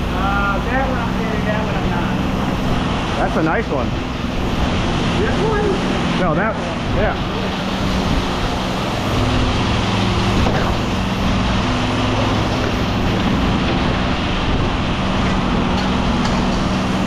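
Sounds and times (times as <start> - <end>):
large engine humming: 0.0 - 17.0.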